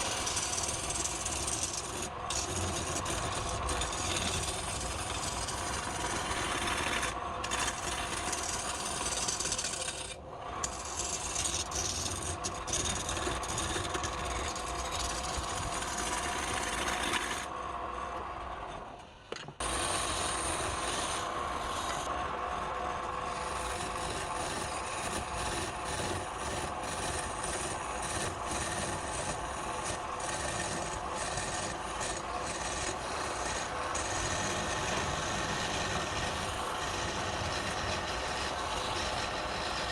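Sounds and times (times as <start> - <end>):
tool rasping on spinning wood: 0.0 - 17.5, 19.6 - 39.9
lathe motor hum: 0.0 - 18.8, 19.6 - 39.9.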